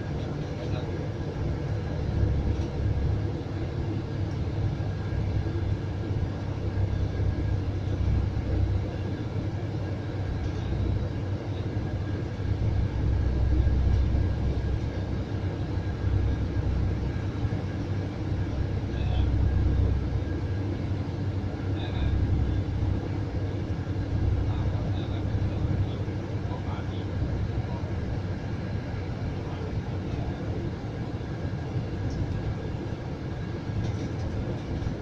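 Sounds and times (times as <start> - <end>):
coach engine and road noise: 0.0 - 35.0.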